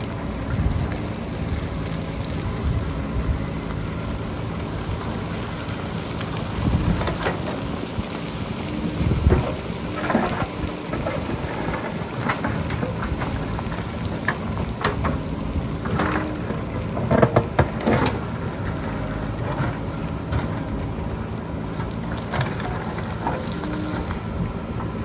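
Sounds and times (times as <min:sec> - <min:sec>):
wind noise on microphone: 0:00.0 - 0:16.4, 0:17.8 - 0:25.0
diesel engine running under load: 0:00.0 - 0:25.0.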